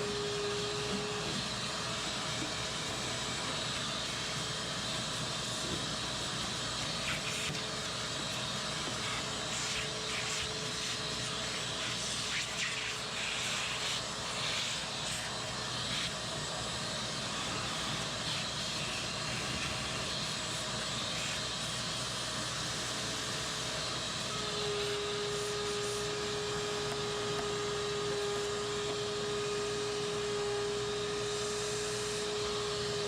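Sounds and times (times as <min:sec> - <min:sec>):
shop vacuum running: 0:00.0 - 0:33.0.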